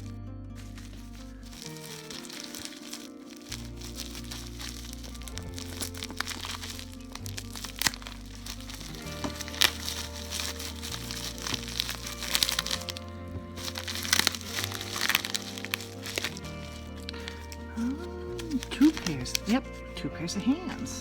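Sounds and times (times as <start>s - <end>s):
background music with bass line: 0.0s - 21.0s
packaging crinkling: 0.6s - 21.0s.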